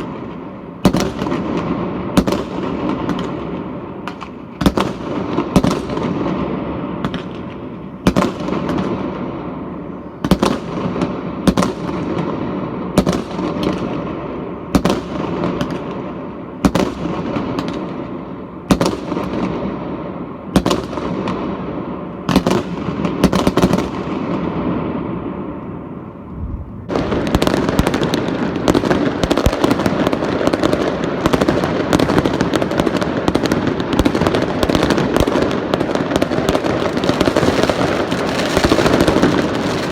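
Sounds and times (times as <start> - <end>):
fireworks bangs: 0.0 - 39.9
fireworks crackle and rumble: 0.0 - 39.9.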